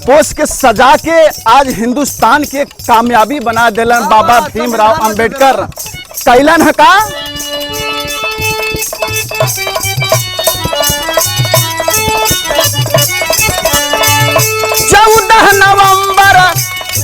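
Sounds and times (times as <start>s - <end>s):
held melody notes: 0.0s - 17.0s
jingling percussion: 0.0s - 17.0s
steady drum beat: 0.0s - 17.0s.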